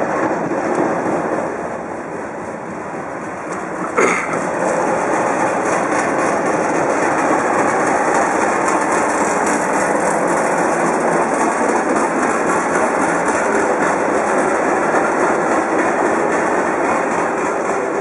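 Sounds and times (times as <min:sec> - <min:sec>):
diesel locomotive engine: 0:00.0 - 0:18.0
wheels rumbling on rails: 0:00.0 - 0:18.0.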